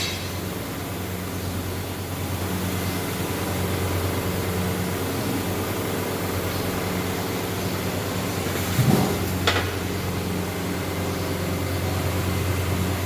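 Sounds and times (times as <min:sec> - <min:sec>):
machine humming and hissing: 0:00.0 - 0:13.0.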